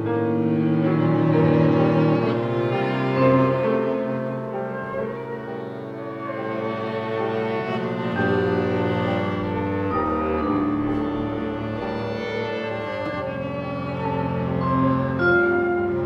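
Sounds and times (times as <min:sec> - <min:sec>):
bowed strings: 0:00.0 - 0:16.0
chamber ensemble playing chords: 0:00.0 - 0:16.0.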